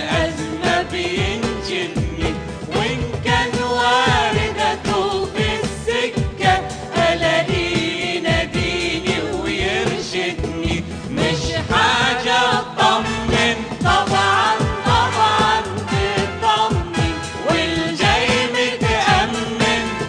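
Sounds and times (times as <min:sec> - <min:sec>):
band with steady beat: 0:00.0 - 0:20.0
hymn singing: 0:00.0 - 0:20.0.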